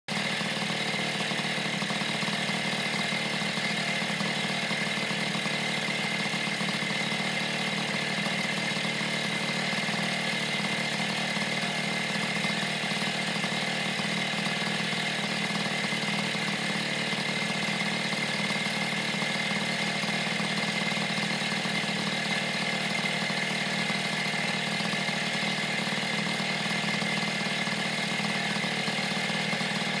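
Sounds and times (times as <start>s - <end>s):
moped engine idling: 0.1s - 30.0s.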